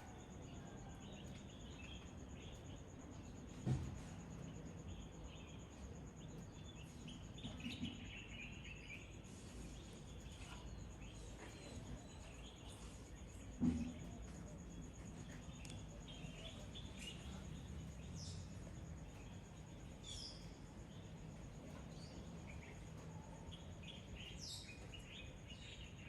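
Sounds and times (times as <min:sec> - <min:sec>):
high insect trill: 0:00.0 - 0:26.0
birds chirping: 0:04.4 - 0:26.0.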